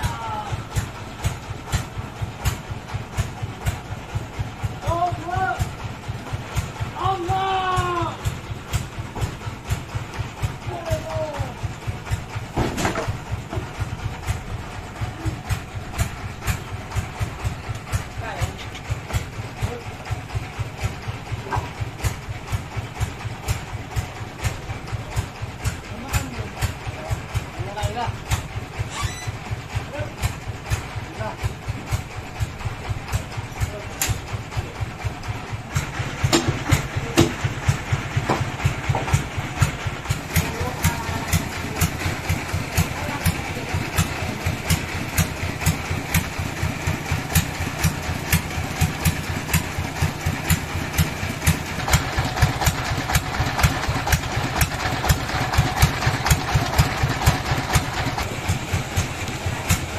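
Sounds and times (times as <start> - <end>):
engine thumping: 0.0 - 59.9.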